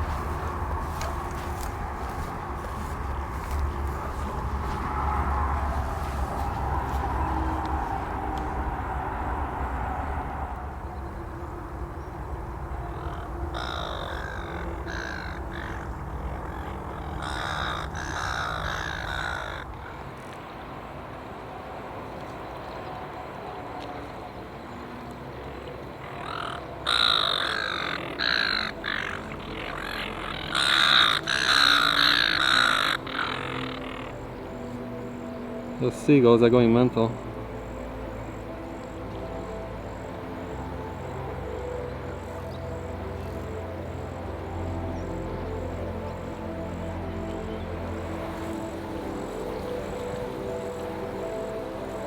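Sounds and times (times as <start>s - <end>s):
gulls squawking: 0.0s - 20.4s, 25.8s - 52.0s.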